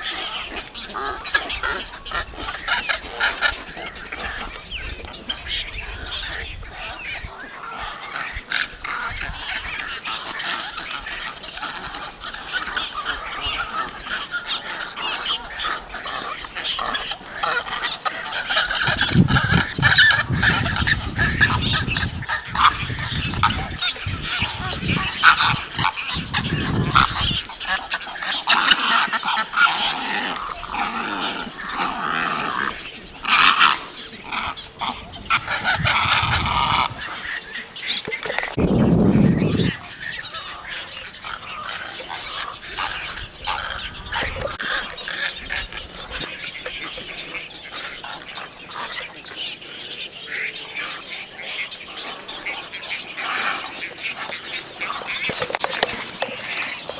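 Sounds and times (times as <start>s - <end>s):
egrets croaking and squawking: 0.0s - 56.9s.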